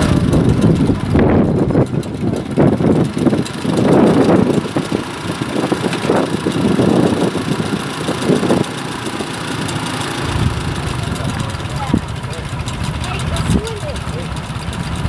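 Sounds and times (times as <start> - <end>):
hay baler running: 0.0 - 15.0
heavy mechanical stroke: 0.0 - 15.0.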